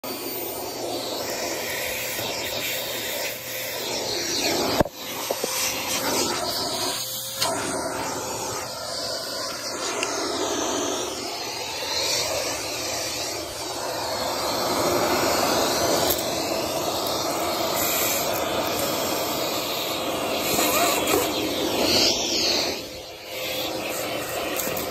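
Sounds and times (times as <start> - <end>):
vacuum cleaner on carpet: 0.0 - 24.9.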